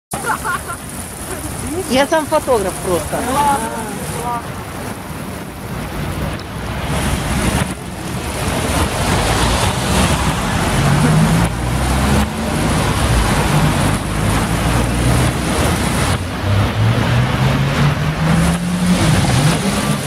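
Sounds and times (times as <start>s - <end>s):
rain: 0.1s - 20.0s
tyres hissing on wet road: 0.2s - 20.0s
vehicle engines humming: 0.2s - 20.0s.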